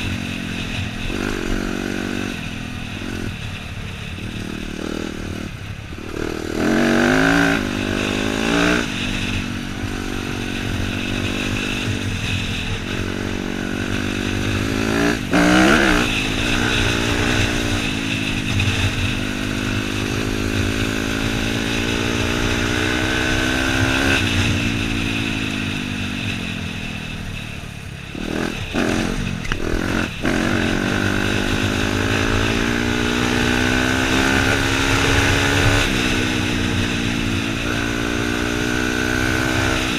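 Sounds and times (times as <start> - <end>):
dirt bike engine revving: 0.0 - 26.3, 28.1 - 39.9.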